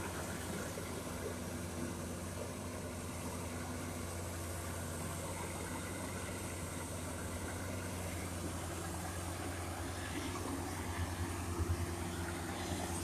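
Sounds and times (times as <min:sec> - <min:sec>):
harvester engine low hum: 0:00.0 - 0:13.0.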